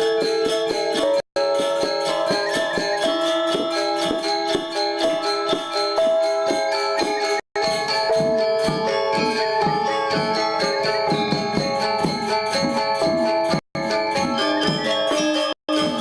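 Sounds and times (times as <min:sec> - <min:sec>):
gamelan gong ensemble playing: 0:00.0 - 0:16.0.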